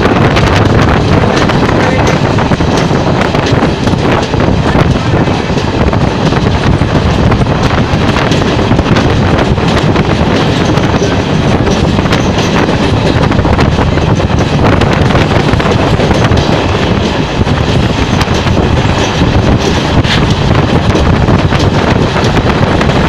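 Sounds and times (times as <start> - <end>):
train wheels rumbling on rails: 0.0 - 23.0
wind buffeting microphone: 0.0 - 23.0.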